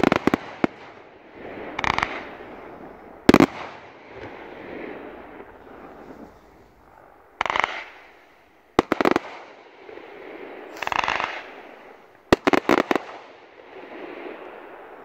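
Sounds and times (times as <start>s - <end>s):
firework crackling: 0.0s - 15.0s
loud firework bangs: 0.0s - 15.0s.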